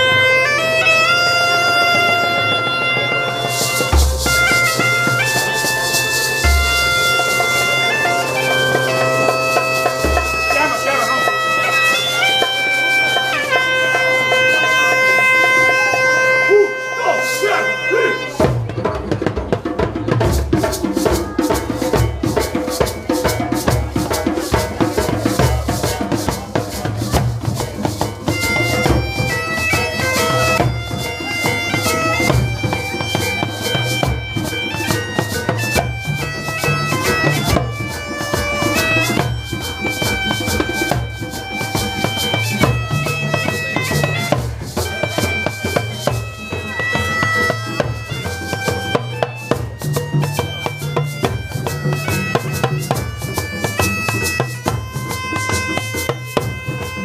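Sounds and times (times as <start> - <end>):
bagpipe melody with drone: 0.0 - 18.7, 20.9 - 57.0
drums beating: 0.0 - 57.0.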